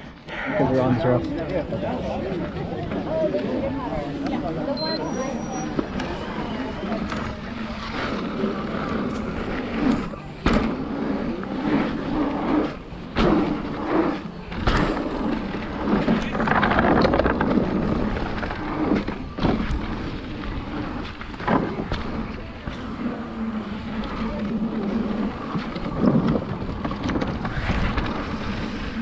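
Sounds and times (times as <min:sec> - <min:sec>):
bike rattling: 0:01.2 - 0:29.0
tyres rolling over dirt and rock: 0:05.7 - 0:29.0.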